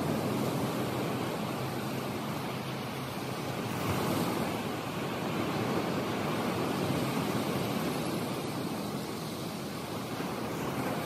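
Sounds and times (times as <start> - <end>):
ocean surf on sandy beach: 0.0 - 11.0.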